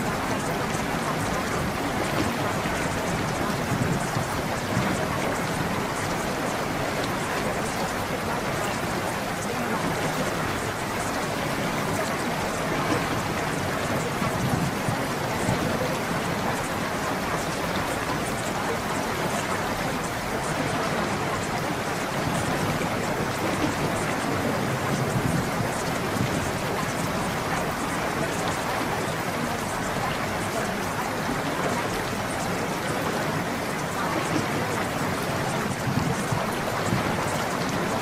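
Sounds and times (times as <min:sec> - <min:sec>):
running water: 0:00.0 - 0:38.0
water drips: 0:00.0 - 0:38.0.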